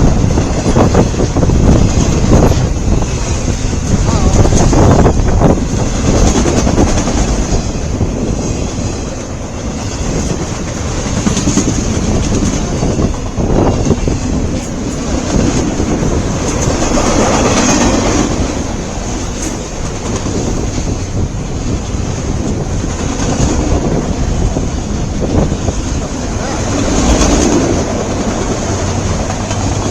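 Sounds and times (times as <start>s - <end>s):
freight train rolling past: 0.0s - 29.9s
wheels clacking over rail joints: 0.0s - 29.9s.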